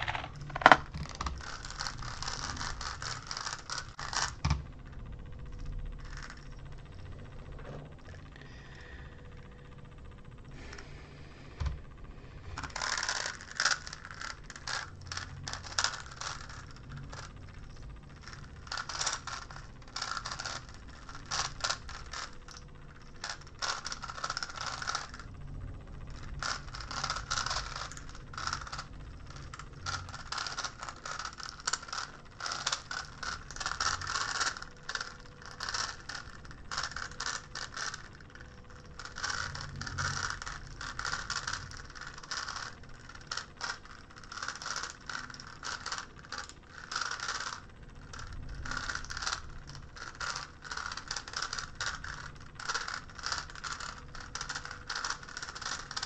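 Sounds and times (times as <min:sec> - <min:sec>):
puzzle cube plastic clicking: 0:00.0 - 0:04.6, 0:12.6 - 0:17.4, 0:18.2 - 0:25.3, 0:26.2 - 0:56.0.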